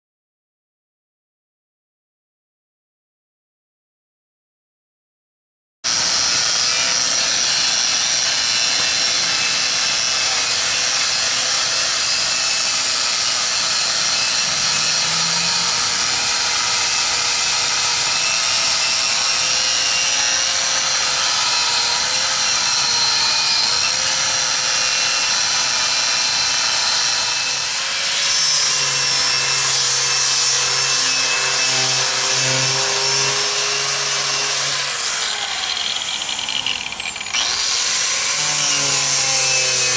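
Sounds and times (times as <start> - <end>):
angle grinder wire brushing steel: 6.8 - 39.9.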